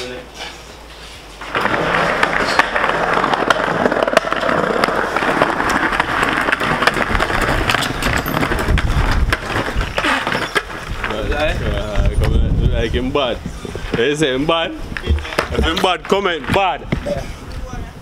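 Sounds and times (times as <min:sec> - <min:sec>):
skateboard wheels rattling on paving: 0:01.4 - 0:17.7.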